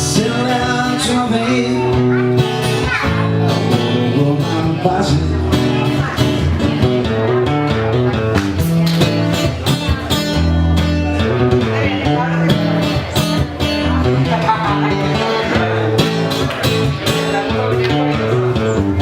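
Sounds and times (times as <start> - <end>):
live band with guitar lead: 0.0 - 19.0.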